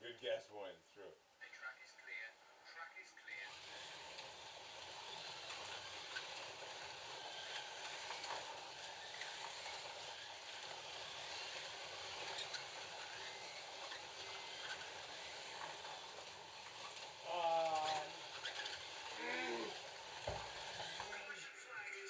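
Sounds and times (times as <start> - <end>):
slot car motors whirring: 3.3 - 22.0
slot cars rattling in track: 3.5 - 22.0.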